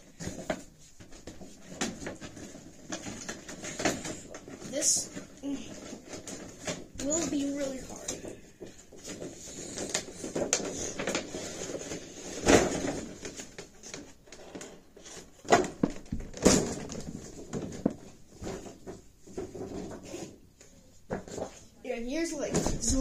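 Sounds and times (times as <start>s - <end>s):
cardboard and plastic packaging rustling: 0.0s - 23.0s.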